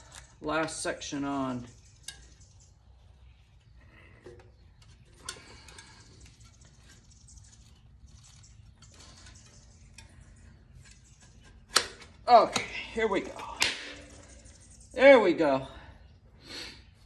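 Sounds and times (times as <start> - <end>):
tire iron clicking and scraping: 0.0 - 15.0.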